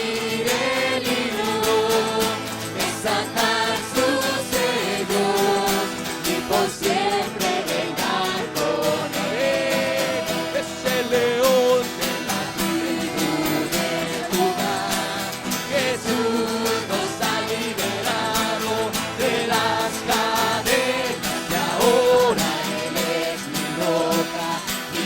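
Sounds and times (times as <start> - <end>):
group singing worship song: 0.0 - 25.0
strummed acoustic guitar: 0.0 - 25.0.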